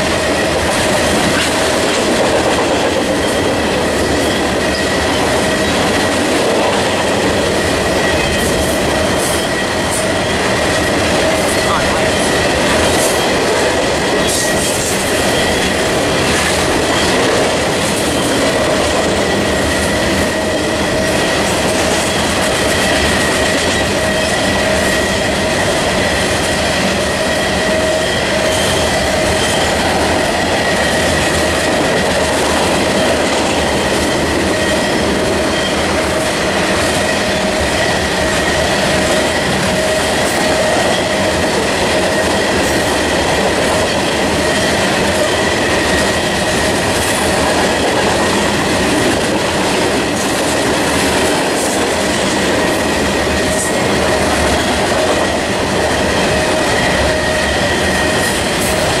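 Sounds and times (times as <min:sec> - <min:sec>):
steel train wheels clattering on rail: 0:00.0 - 0:59.0.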